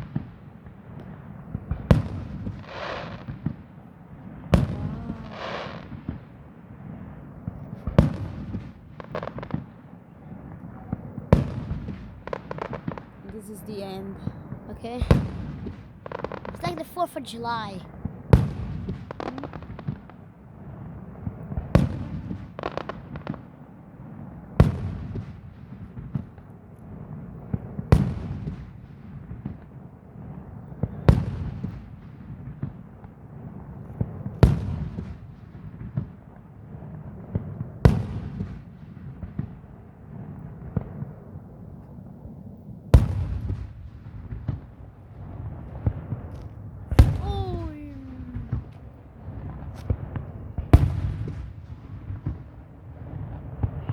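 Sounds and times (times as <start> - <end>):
fireworks bangs: 0.0 - 23.5, 33.6 - 53.9.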